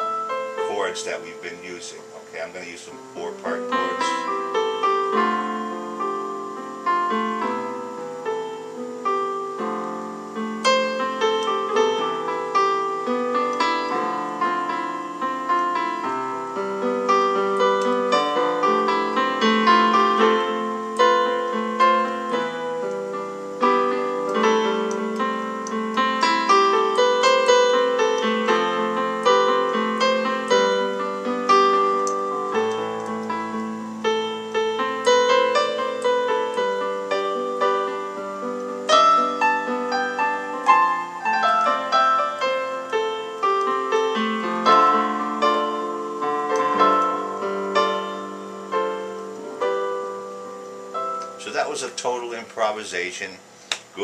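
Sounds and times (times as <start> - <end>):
electronic keyboard chords and melody: 0.0 - 54.0.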